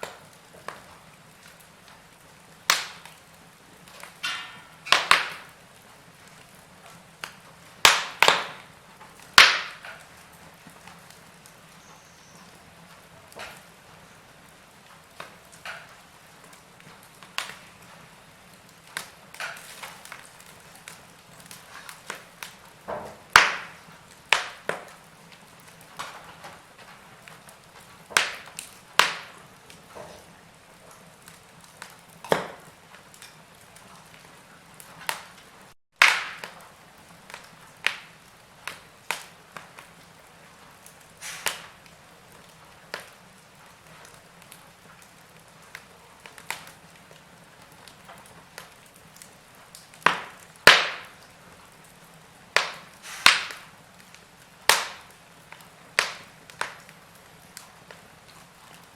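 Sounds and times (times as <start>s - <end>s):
soft steady hiss: 0.0s - 58.9s
wood fire crackling and popping: 0.0s - 58.9s.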